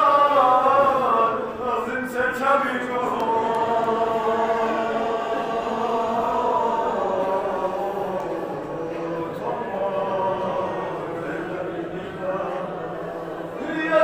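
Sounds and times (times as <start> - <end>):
man chanting unaccompanied: 0.0 - 14.0.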